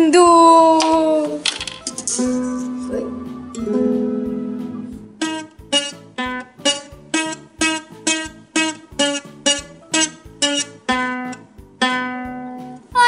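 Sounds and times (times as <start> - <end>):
ukulele strumming: 1.9 - 13.0.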